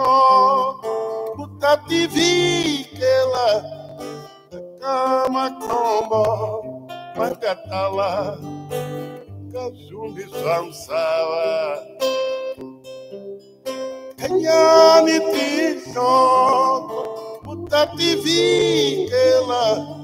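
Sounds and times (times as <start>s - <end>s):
man singing: 0.0s - 4.1s, 4.8s - 8.5s, 9.5s - 12.1s, 14.2s - 20.0s
acoustic guitar strumming: 0.0s - 20.0s.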